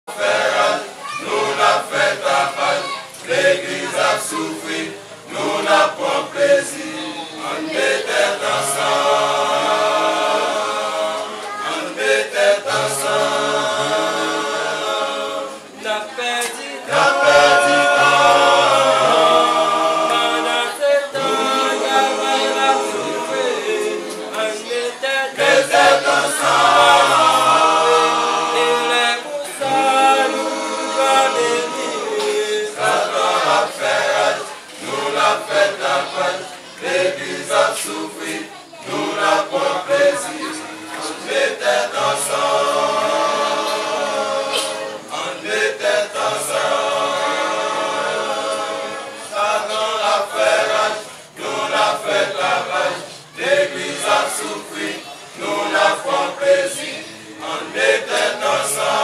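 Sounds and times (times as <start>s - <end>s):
men singing a cappella: 0.1s - 59.0s.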